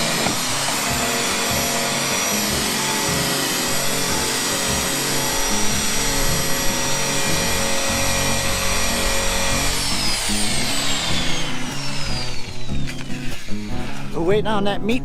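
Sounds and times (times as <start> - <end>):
power tool motor whining: 0.0 - 14.2
background music: 0.0 - 15.0.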